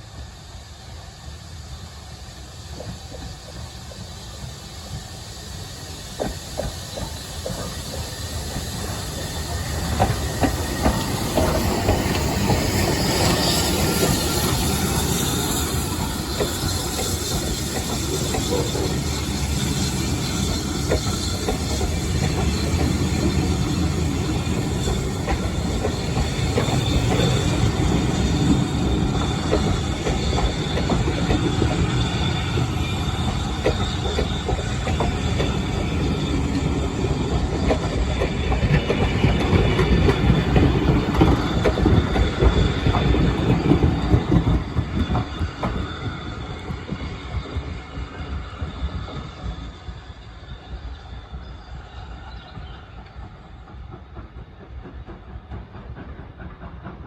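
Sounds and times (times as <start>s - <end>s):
steel wheels squealing on rails: 0.0s - 57.0s
train wheels clicking over rail joints: 2.4s - 51.6s, 52.2s - 57.0s.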